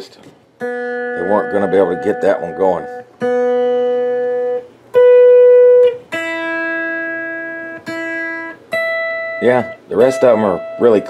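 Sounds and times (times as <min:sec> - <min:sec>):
electric guitar notes plucked: 0:00.6 - 0:11.0.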